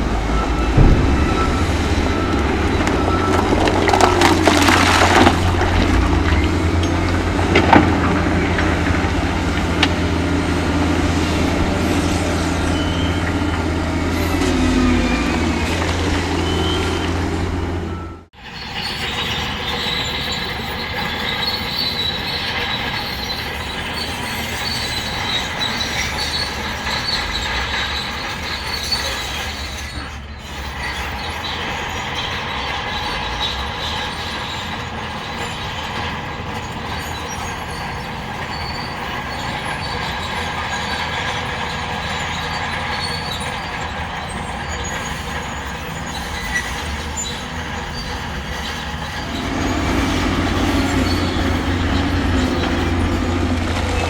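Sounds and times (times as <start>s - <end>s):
diesel engine running: 0.0s - 54.0s
steel tracks squealing: 0.0s - 54.0s.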